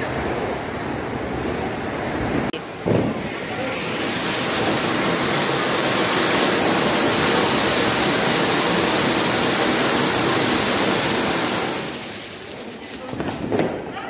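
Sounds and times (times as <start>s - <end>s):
firework fountain hissing: 2.1s - 14.0s.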